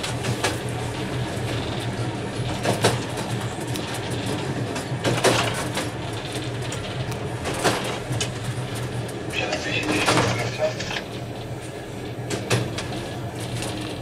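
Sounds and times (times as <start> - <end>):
train running hum: 0.0 - 14.0
wheel clacks: 0.0 - 14.0.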